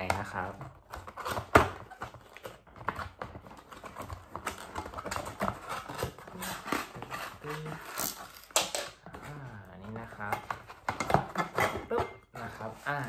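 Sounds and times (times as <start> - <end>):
cardboard and plastic packaging handled: 0.0 - 13.0.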